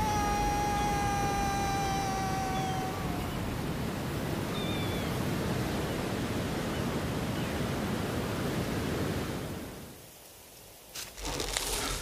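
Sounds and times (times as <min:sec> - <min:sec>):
sea surf: 0:00.0 - 0:09.9
wind: 0:00.0 - 0:12.0.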